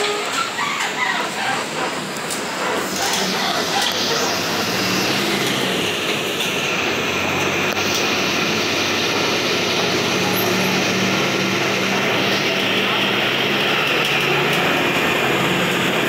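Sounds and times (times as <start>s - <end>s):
bus engine hum: 0.0s - 16.0s.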